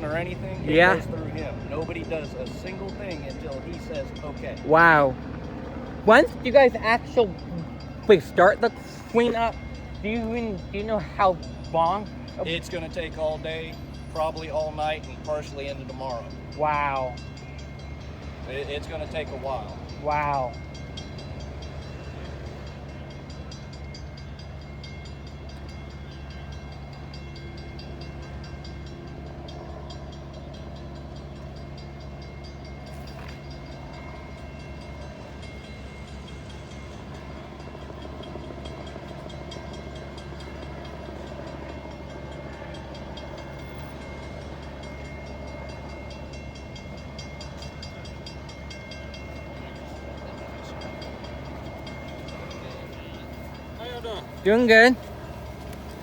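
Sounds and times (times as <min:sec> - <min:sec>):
diesel engines idling: 0:00.0 - 0:56.0.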